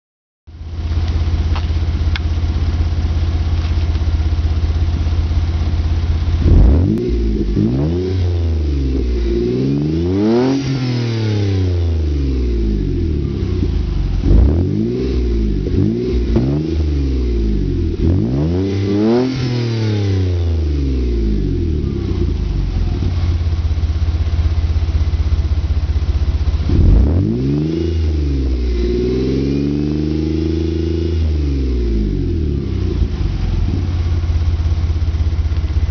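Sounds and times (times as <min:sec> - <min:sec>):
car engine idling and revving: 0:00.5 - 0:35.9.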